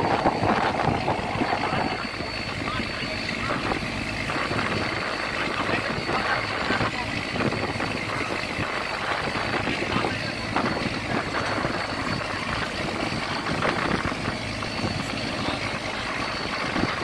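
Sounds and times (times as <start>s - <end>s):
boat engine running: 0.0s - 17.0s
sea water rushing: 0.0s - 17.0s
wind: 0.0s - 17.0s.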